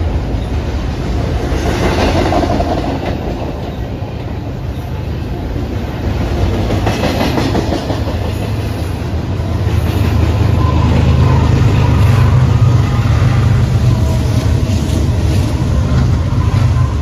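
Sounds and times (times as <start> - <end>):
diesel locomotive engine drone: 0.0 - 17.0
freight train rumbling on rails: 0.0 - 17.0.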